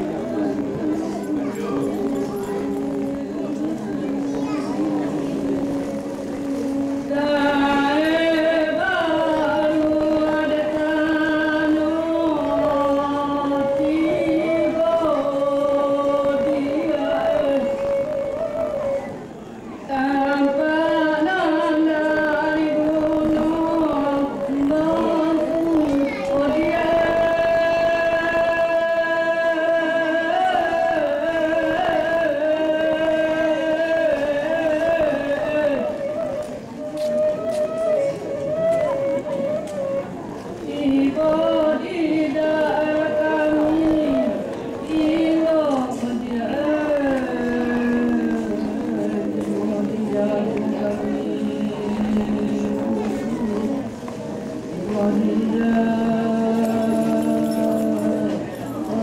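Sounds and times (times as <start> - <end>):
chant-like traditional music: 0.0 - 59.0.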